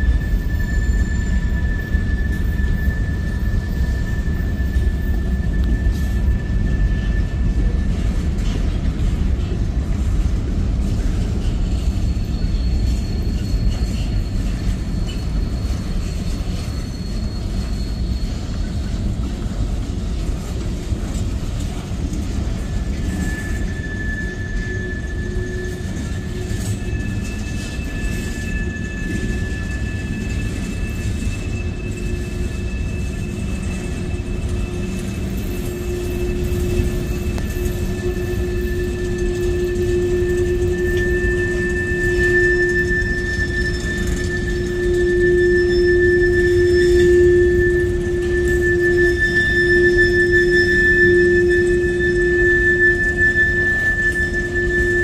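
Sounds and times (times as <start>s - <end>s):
faint thin squeals: 0.0s - 55.0s
train wheels rumbling on rail: 0.0s - 55.0s.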